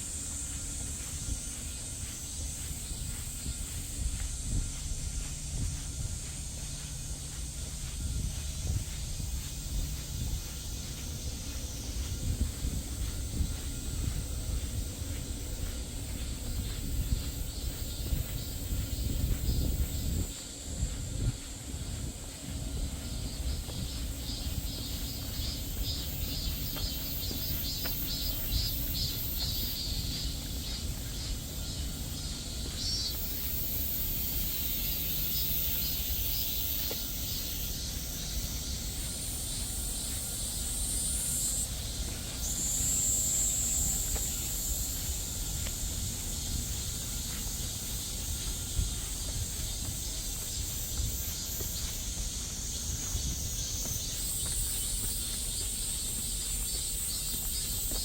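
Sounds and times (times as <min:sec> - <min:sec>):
fast pulsing insect trill: 0:00.0 - 0:58.0
insects shrilling: 0:00.0 - 0:58.0.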